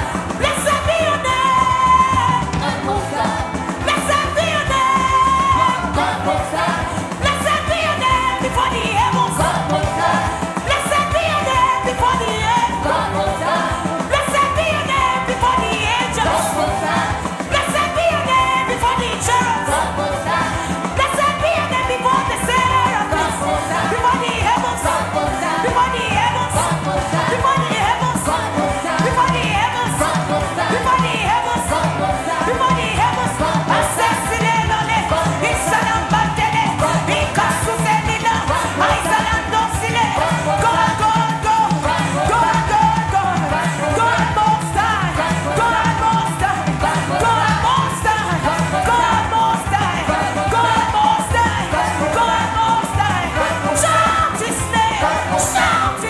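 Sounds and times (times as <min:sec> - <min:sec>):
band with steady beat: 0:00.0 - 0:56.0
voices singing worship music: 0:00.0 - 0:56.0.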